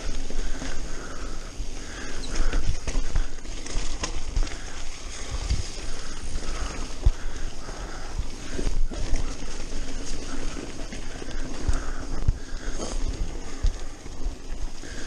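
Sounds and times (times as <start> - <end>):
bike thumping and rattling: 0.0 - 15.0
bike tyres rolling over dirt: 0.0 - 15.0.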